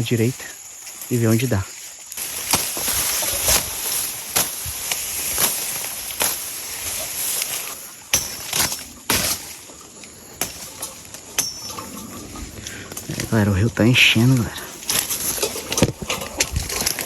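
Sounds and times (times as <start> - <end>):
footsteps crunching leaves and twigs: 0.0 - 17.0
high insect drone: 0.0 - 17.0.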